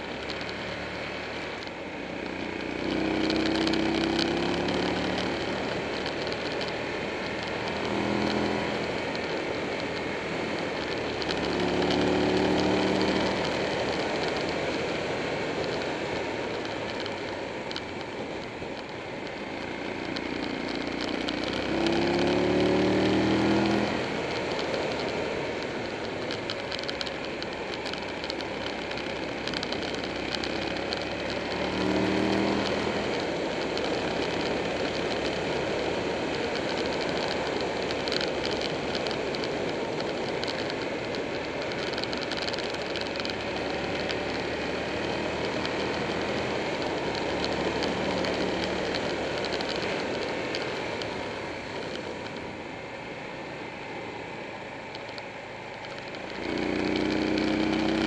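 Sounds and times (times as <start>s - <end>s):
motorcycle engine: 0.0s - 58.0s
wind and road rush: 0.0s - 58.0s.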